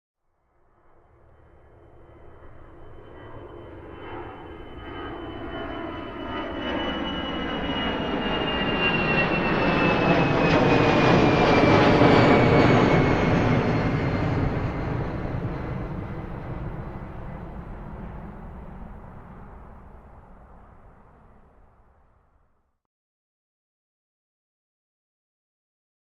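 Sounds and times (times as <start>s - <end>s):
airplane engine taking off: 0.5s - 22.8s.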